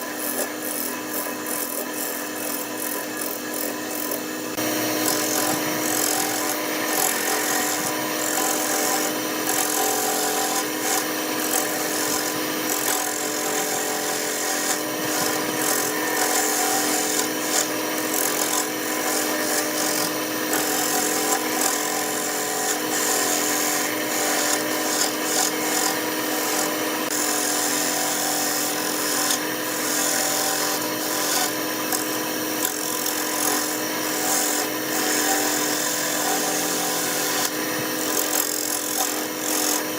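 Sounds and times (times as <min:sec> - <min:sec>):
lathe motor hum: 0:00.0 - 0:39.9
tool scraping spinning wood: 0:00.0 - 0:39.9.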